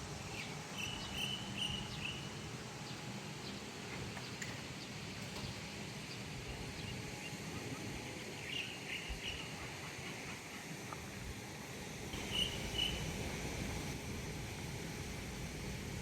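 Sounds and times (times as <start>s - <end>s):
ambient background noise: 0.0s - 16.0s.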